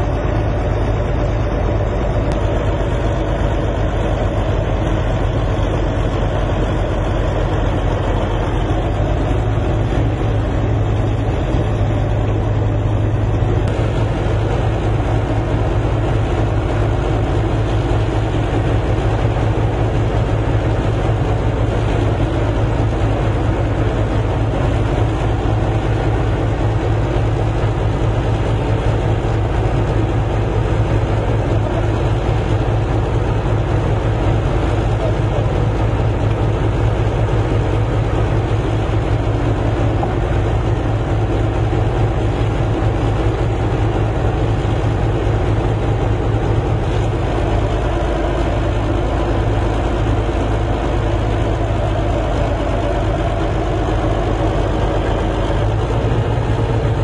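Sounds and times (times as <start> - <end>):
large engine droning: 0.0 - 57.0.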